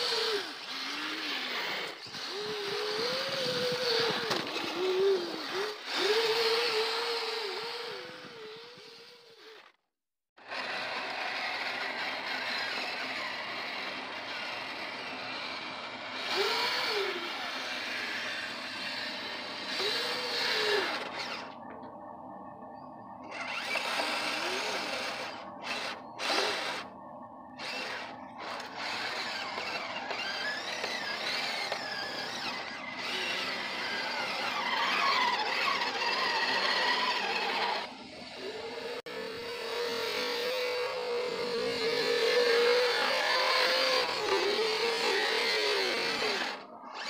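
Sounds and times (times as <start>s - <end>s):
electric motors whining: 0.0s - 9.8s, 10.4s - 47.0s.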